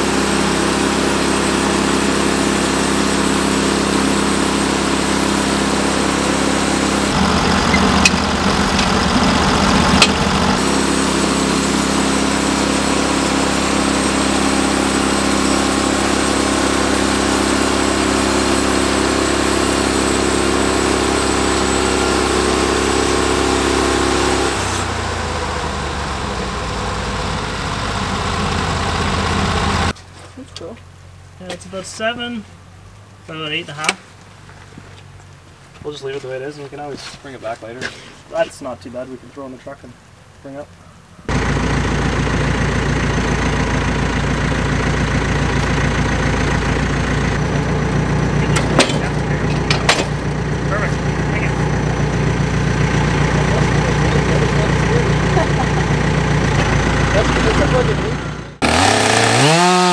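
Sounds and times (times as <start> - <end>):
band sawmill cutting log: 0.0 - 30.0, 41.3 - 59.9.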